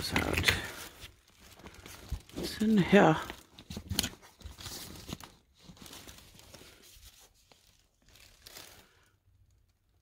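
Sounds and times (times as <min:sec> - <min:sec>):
paper rustling and crinkling: 0:00.0 - 0:09.8.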